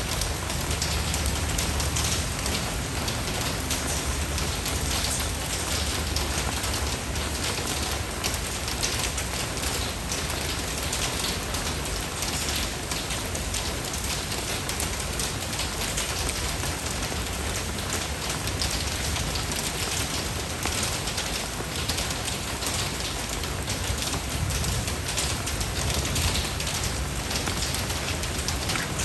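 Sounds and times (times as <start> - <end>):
steady rain pattering: 0.0 - 29.0.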